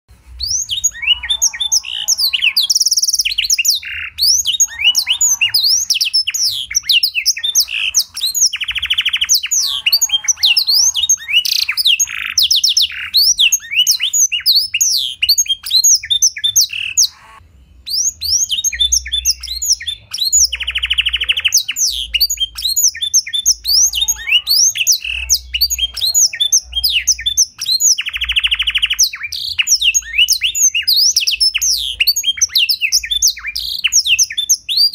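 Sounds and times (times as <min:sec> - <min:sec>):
canary singing chirps and trills: 0:00.1 - 0:34.9.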